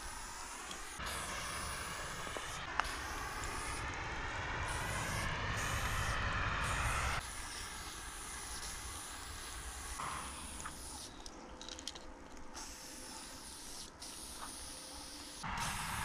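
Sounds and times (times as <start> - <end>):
spray paint can hissing: 0.0 - 16.0.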